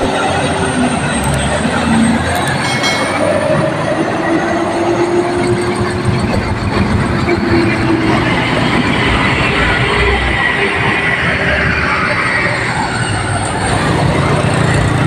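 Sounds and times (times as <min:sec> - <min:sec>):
heavy truck engine labouring: 0:00.0 - 0:15.0.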